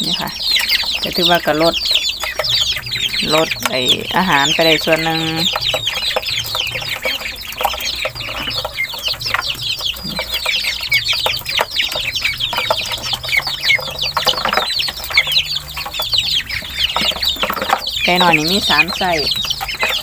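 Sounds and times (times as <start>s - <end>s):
bills pecking in basin: 0.0s - 20.0s
ducklings and chicks peeping: 0.0s - 20.0s.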